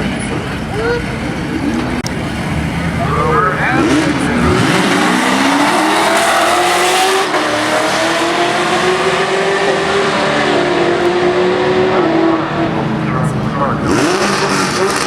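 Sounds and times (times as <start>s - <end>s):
drag racing car engines: 0.0s - 15.0s.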